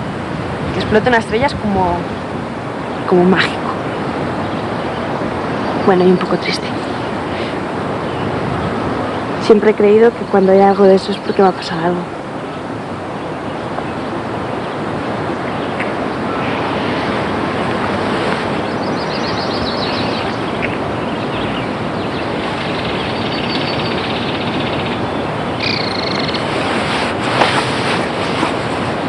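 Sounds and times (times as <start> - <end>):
rushing outdoor noise: 0.0 - 29.0
birds chirping: 0.7 - 29.0.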